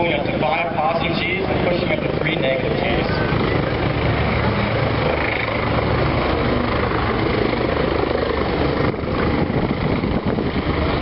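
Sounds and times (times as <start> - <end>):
aircraft engine and propeller: 0.0 - 11.0.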